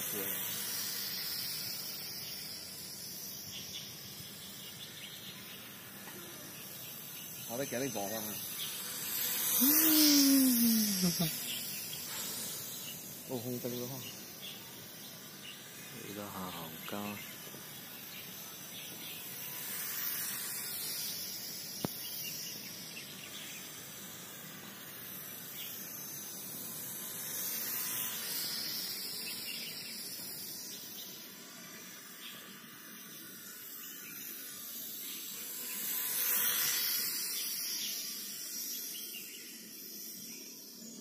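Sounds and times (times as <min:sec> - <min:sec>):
small electric plane motor buzzing: 0:00.0 - 0:41.0.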